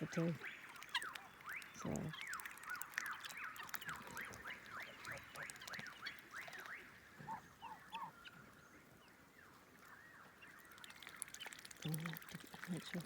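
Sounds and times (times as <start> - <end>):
birds chirping: 0.0 - 13.0
low bird calls: 0.0 - 13.0.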